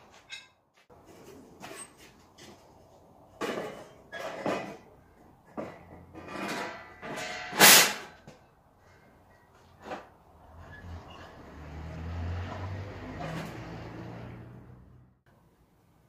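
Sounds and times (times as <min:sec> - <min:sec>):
metallic clanks and scrapes: 0:00.1 - 0:02.6, 0:03.4 - 0:14.4.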